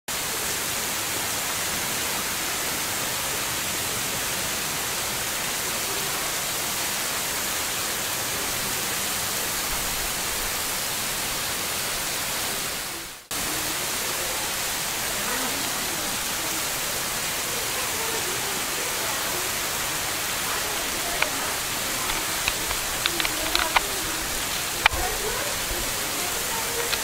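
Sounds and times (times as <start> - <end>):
waterfall splashing: 0.1 - 27.0.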